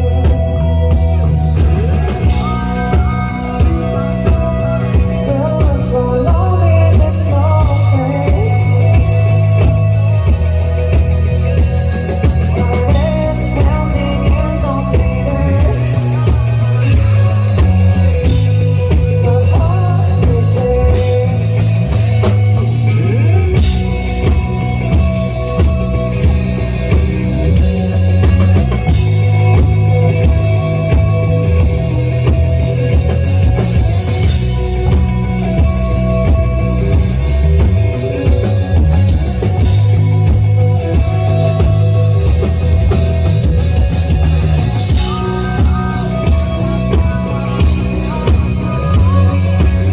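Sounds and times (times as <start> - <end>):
live rock band playing: 0.0 - 49.9.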